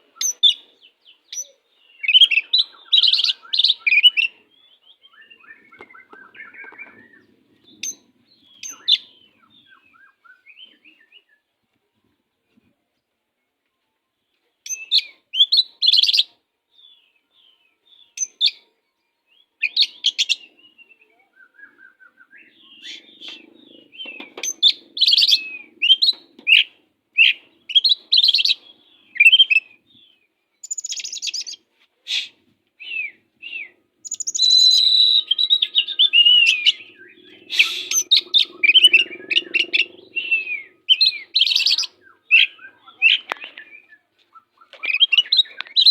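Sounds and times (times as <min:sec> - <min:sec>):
bird singing whistled notes: 0:00.1 - 0:11.5, 0:14.6 - 0:18.6, 0:19.2 - 0:32.2, 0:32.8 - 0:45.9.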